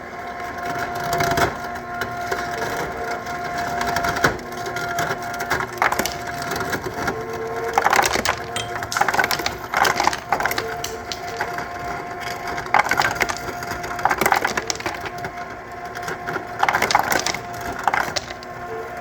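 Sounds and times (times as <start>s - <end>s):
ice cubes clattering and cracking: 0.6s - 19.0s.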